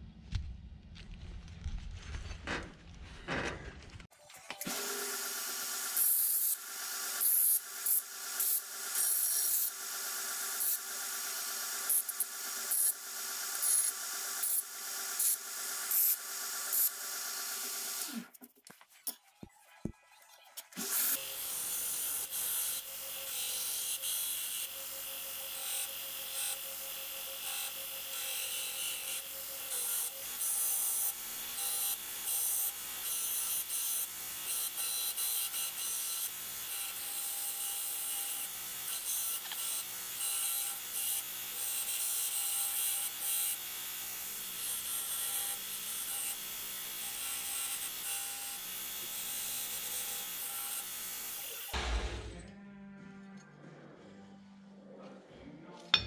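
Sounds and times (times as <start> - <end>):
belt grinder grinding steel: 4.2 - 18.3, 20.6 - 51.8.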